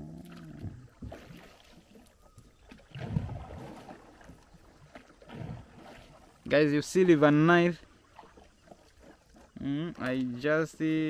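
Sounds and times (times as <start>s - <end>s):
paddle strokes in water: 0.0s - 11.0s.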